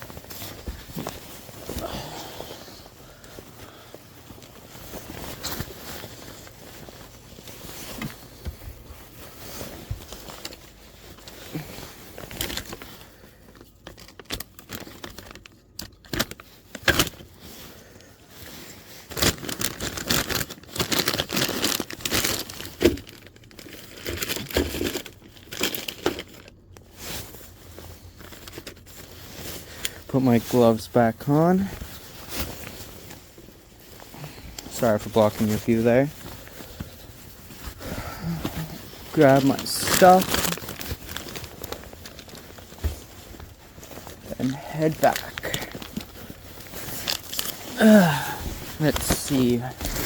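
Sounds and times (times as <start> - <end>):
rustling and crinkling: 0.0 - 50.0.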